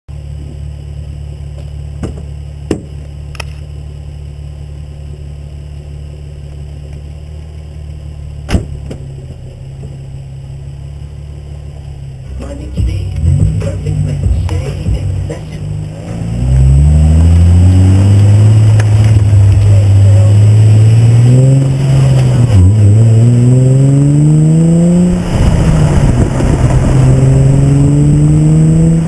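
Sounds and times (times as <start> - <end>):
car engine idling: 0.1 - 29.0.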